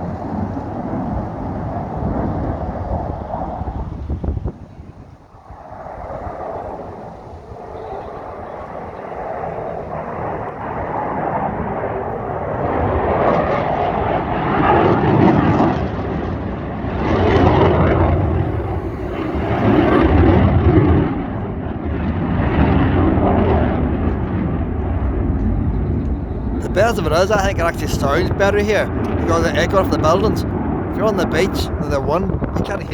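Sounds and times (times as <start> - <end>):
jet engines rumbling overhead: 0.0 - 32.9.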